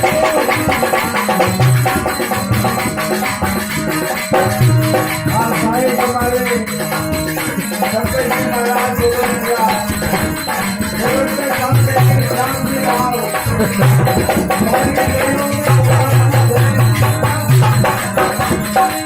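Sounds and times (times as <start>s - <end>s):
amplified folk melody: 0.0s - 19.0s
dholak drumming: 0.0s - 19.0s
jingling hand percussion: 0.0s - 19.0s.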